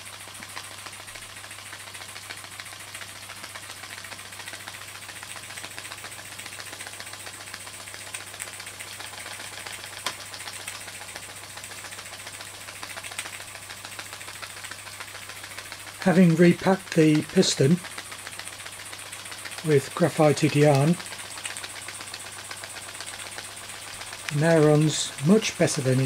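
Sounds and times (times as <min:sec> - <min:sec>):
toy steam engine ticking: 0:00.0 - 0:26.0.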